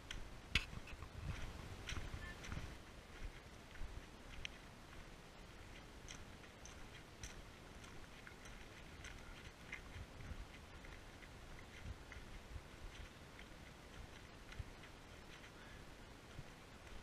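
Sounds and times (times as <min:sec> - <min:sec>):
footsteps on gravel path: 0:00.0 - 0:17.0
outdoor ambience: 0:00.0 - 0:17.0.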